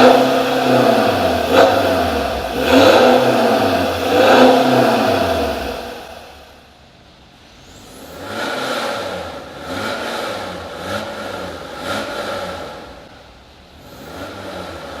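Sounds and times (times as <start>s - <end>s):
diesel engine revving: 0.0s - 6.6s, 7.6s - 15.0s.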